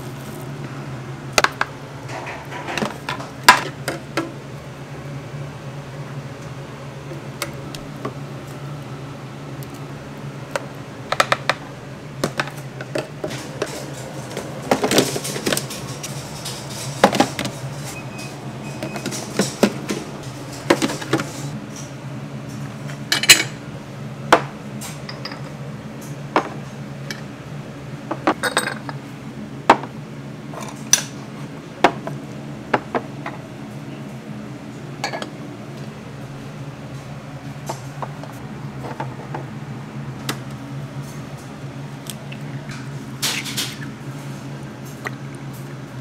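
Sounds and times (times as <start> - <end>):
low kitchen hum: 0.0 - 46.0.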